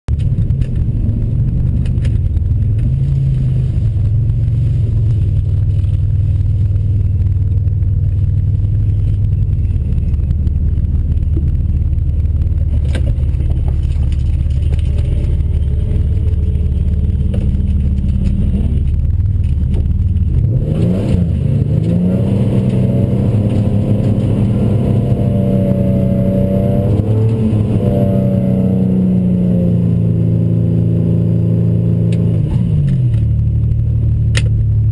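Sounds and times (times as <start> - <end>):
car engine droning: 0.0 - 34.9.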